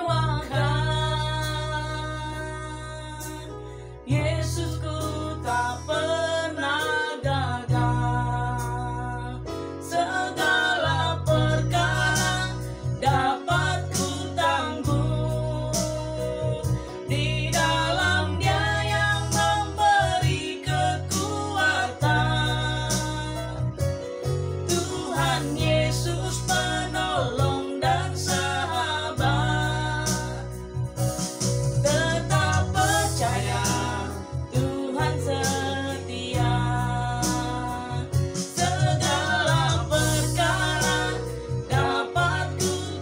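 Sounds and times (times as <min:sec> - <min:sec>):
woman singing worship song: 0:00.0 - 0:23.8, 0:24.7 - 0:30.9, 0:31.8 - 0:43.0
keyboard accompaniment: 0:00.0 - 0:43.0.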